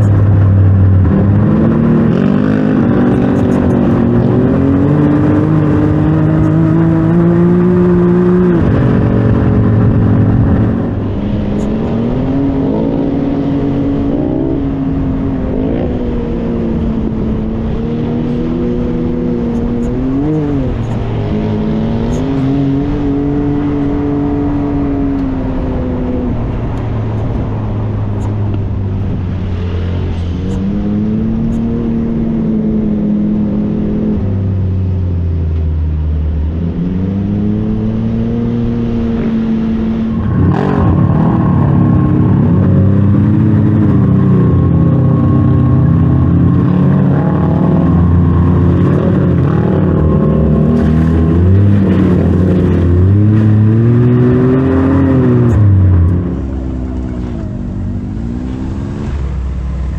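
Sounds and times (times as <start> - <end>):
second engine noise: 0.0 - 59.9
utv engine revving: 0.0 - 59.9.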